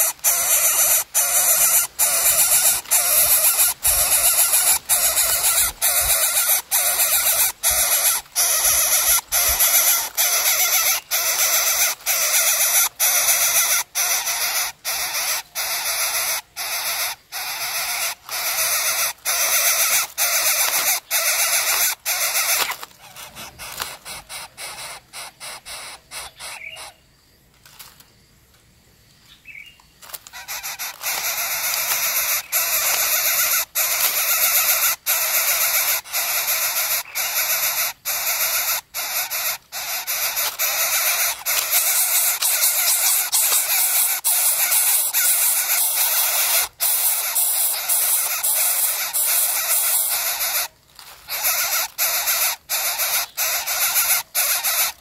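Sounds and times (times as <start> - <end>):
nestlings hissing and rasping: 0.0 - 26.9, 30.0 - 55.0.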